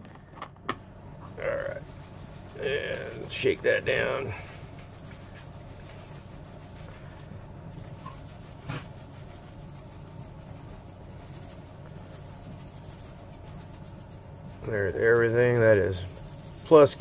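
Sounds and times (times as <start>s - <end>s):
grit rustling on wire mesh: 1.3s - 17.0s.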